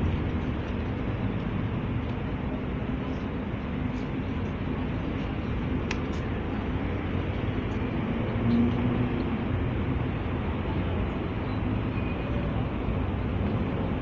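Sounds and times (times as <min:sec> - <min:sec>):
hall room rumble and hiss: 0:00.0 - 0:14.0.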